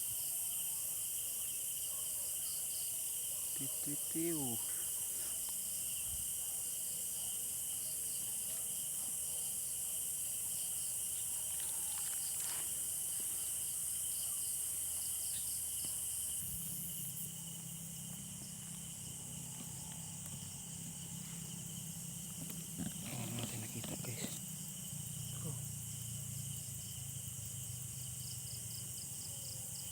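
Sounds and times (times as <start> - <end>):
night insects chirring: 0.0 - 29.9.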